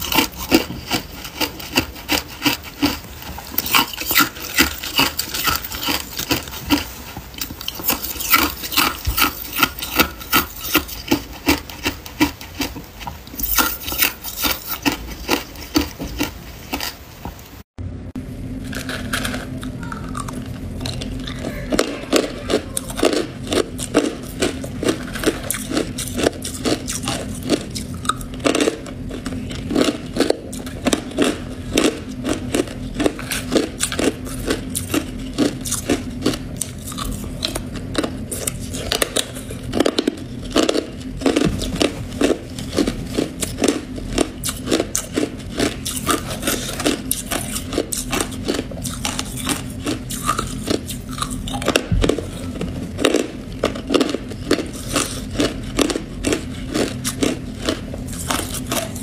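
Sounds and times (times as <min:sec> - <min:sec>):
ice being chewed: 0:00.0 - 0:17.4, 0:18.7 - 0:59.0
low steady hum: 0:00.0 - 0:59.0.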